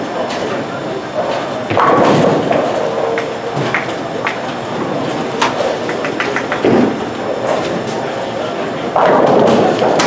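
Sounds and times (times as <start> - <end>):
bowling balls rolling: 1.2 - 8.2, 8.8 - 10.0.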